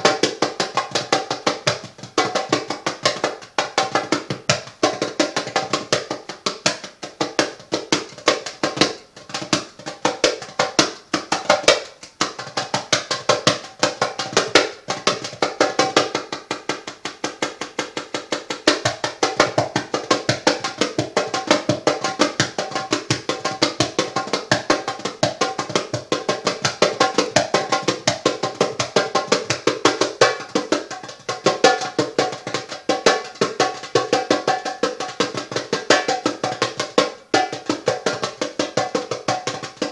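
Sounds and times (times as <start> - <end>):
hand drums in quick rhythm: 0.0 - 39.9.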